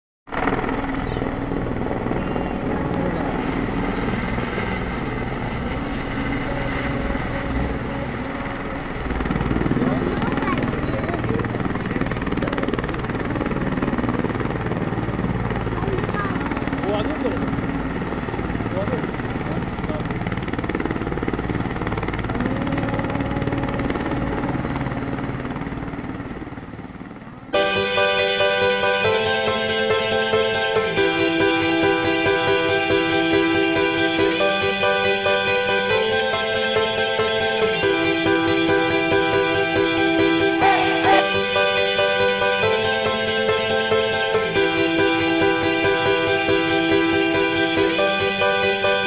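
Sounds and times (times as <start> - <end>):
helicopter engine tone: 0.3 - 49.0
helicopter rotor beat: 0.3 - 49.0.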